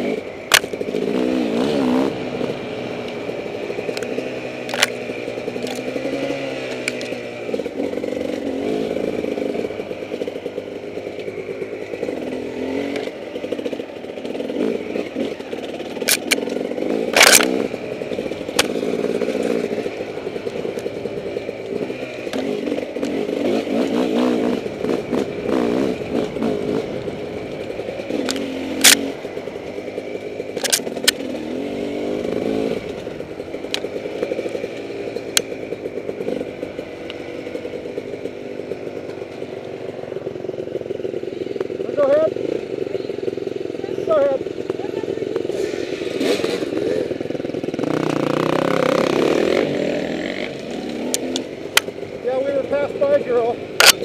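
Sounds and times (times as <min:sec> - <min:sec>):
off-road motorcycle engine revving: 0:00.0 - 0:54.0.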